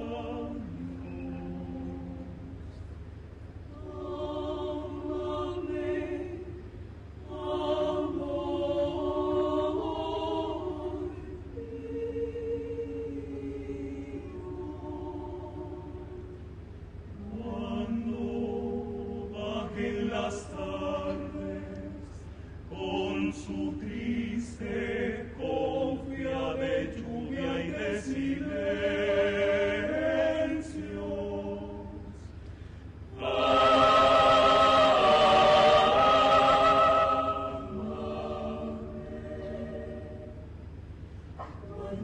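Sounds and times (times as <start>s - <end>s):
choir singing unaccompanied: 0.0s - 2.6s, 3.7s - 16.5s, 17.1s - 32.3s, 33.1s - 40.6s, 41.4s - 42.0s.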